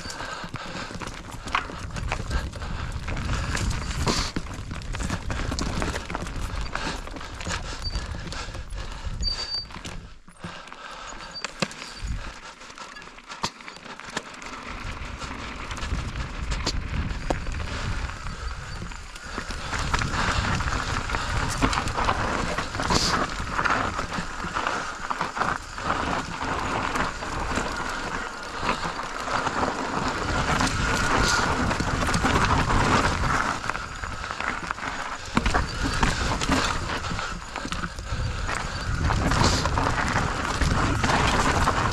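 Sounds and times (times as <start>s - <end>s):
bike rattling and clicking: 0.0s - 41.9s
bike tyres on dirt and rock: 0.0s - 41.9s.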